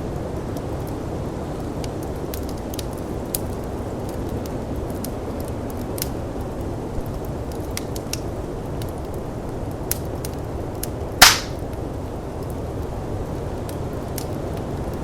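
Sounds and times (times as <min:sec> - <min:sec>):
wood fire crackling and popping: 0:00.1 - 0:15.0.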